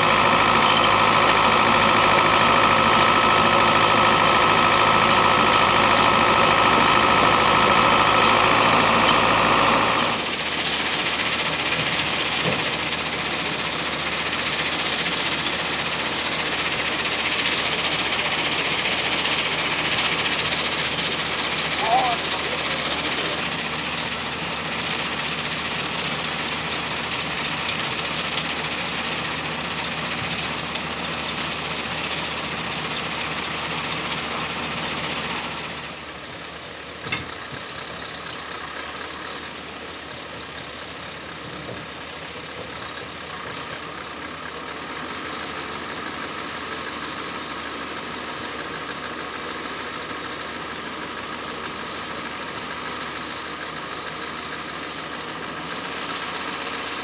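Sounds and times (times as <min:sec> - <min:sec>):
heavy diesel machinery with hiss: 0:00.0 - 0:57.0
truck diesel engine idling: 0:00.0 - 0:57.0.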